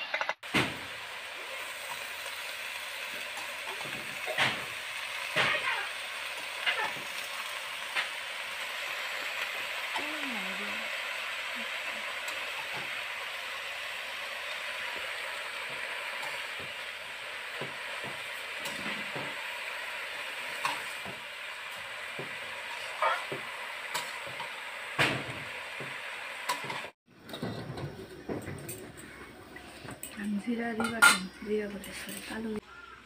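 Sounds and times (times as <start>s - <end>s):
greens sizzling in a pan: 0.4s - 27.5s, 28.4s - 32.6s.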